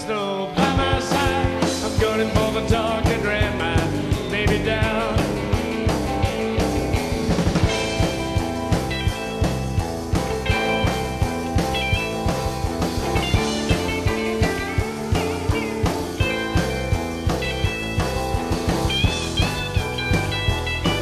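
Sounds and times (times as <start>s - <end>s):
bass: 0.0s - 21.0s
drum-kit beat: 0.0s - 21.0s
electric lead guitar: 0.0s - 21.0s.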